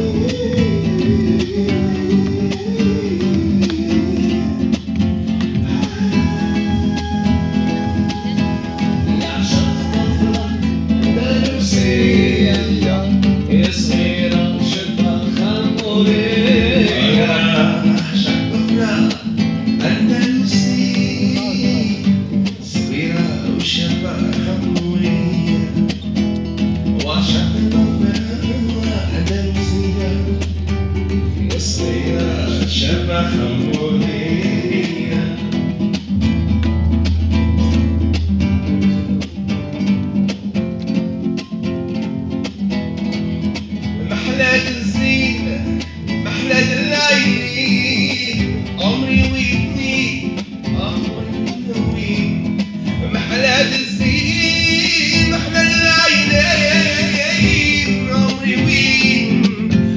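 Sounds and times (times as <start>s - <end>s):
man singing: 0.0s - 36.3s, 43.8s - 59.9s
acoustic guitar strumming: 0.0s - 59.9s.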